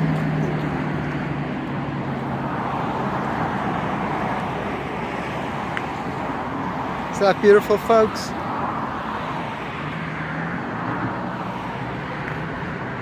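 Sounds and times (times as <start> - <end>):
traffic rushing: 0.0 - 13.0.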